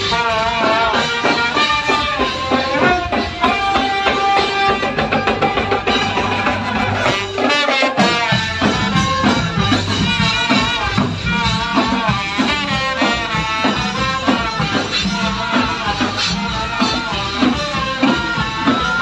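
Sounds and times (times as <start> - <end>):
brass band playing: 0.0 - 19.0
drums: 0.0 - 19.0.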